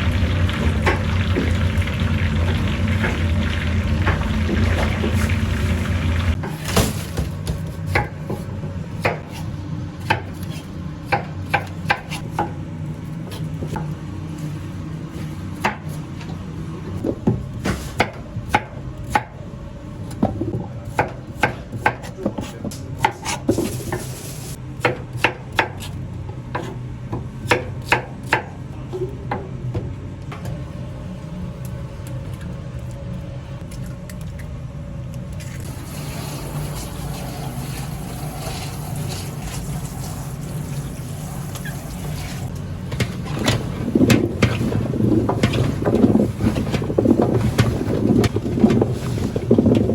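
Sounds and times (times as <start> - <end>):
low kitchen hum: 0.0 - 49.9.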